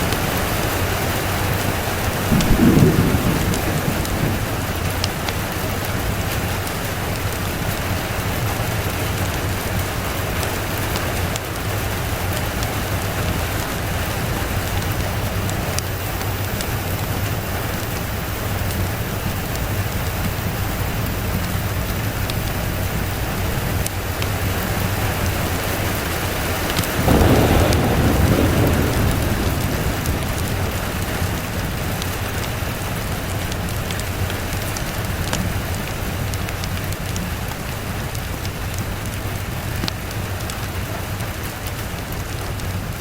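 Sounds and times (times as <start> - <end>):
thunder rumbling: 0.0 - 9.9, 10.6 - 43.0
steady rain falling: 0.0 - 43.0.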